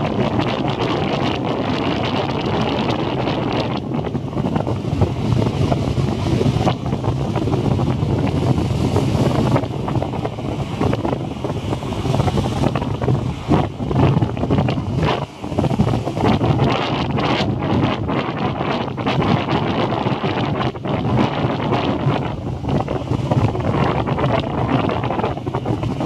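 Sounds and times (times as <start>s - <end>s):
sea surf washing onto shore: 0.0s - 26.0s
wind buffeting the microphone: 0.0s - 26.0s.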